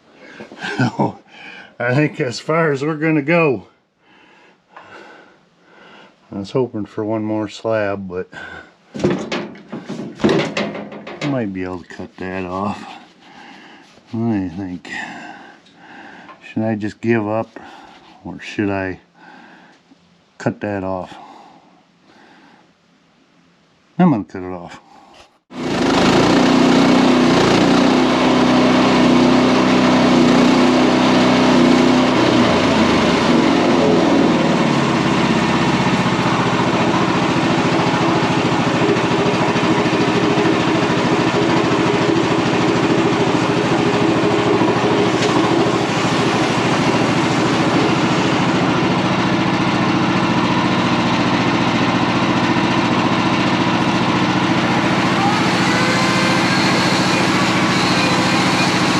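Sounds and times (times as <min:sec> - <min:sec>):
sawmill engine starting and running: 0:00.0 - 0:03.6, 0:06.9 - 0:19.4, 0:25.5 - 0:58.9.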